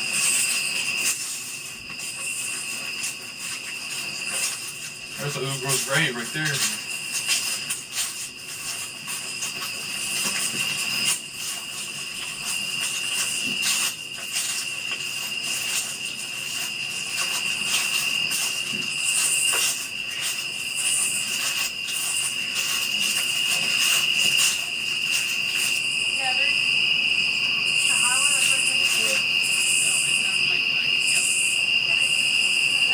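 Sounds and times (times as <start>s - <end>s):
insects chorus: 0.0s - 32.9s.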